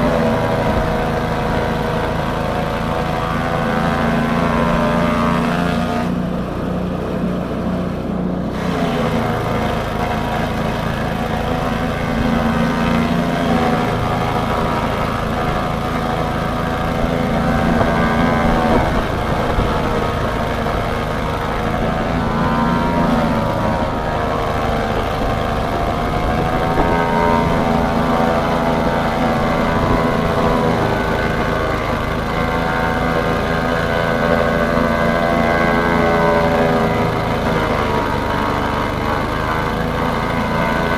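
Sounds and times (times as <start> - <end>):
chaff cutter engine running: 0.0 - 40.9.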